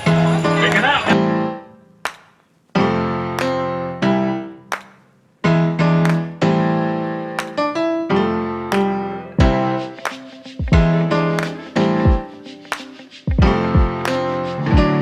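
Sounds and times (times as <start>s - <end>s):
piano chords: 0.0s - 1.9s, 2.8s - 4.8s, 5.4s - 15.0s.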